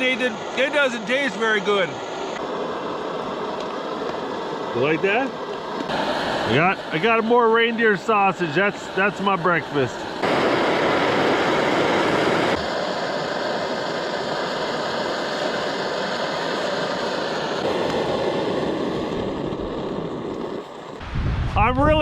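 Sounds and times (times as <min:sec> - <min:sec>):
wind howling through trees: 0:00.0 - 0:22.0.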